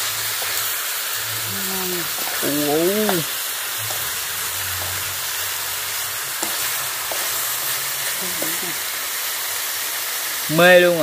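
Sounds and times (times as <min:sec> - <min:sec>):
fish and pork sizzling in oil: 0:00.0 - 0:11.0.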